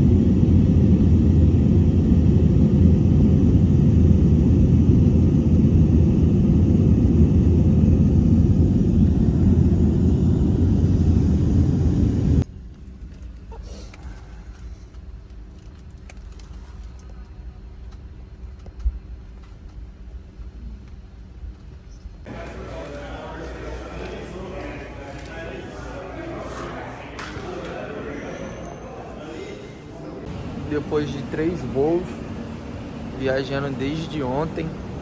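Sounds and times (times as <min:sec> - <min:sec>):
airliner cabin rumble: 0:00.0 - 0:27.0, 0:30.2 - 0:35.0.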